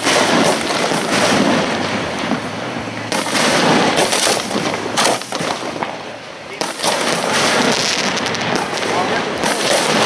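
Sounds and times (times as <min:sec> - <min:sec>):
firework bangs: 0:00.0 - 0:10.0
fireworks rushing and crackling: 0:00.0 - 0:10.0.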